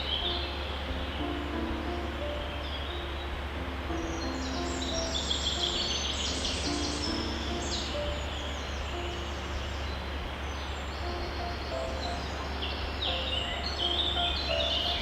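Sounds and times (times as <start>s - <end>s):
soft low notes: 0.0s - 15.0s
songbirds chirping: 0.0s - 15.0s
steady hiss and low hum: 0.0s - 15.0s.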